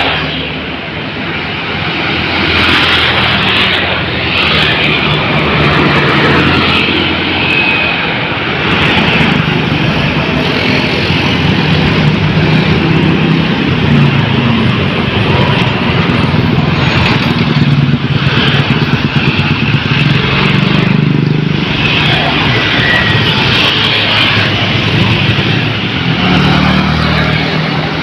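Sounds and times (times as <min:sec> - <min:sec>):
heavy highway traffic: 0:00.0 - 0:28.0.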